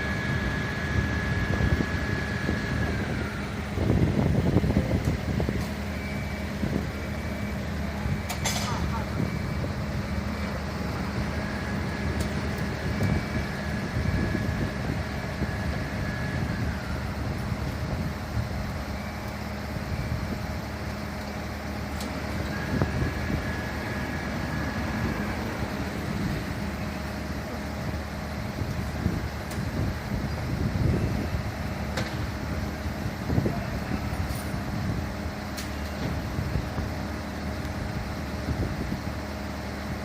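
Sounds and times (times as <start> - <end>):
fire truck engine running: 0.0 - 40.0
high whine: 0.0 - 40.0.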